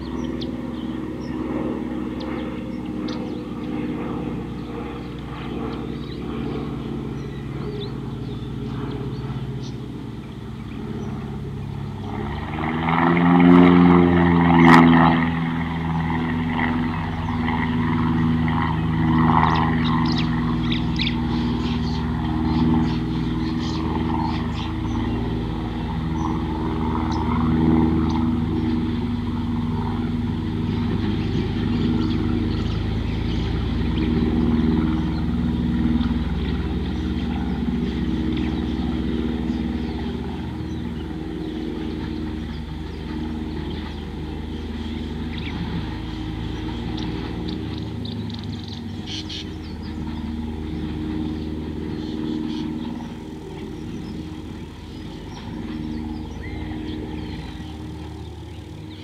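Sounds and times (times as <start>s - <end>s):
motor engine humming: 0.0s - 59.0s.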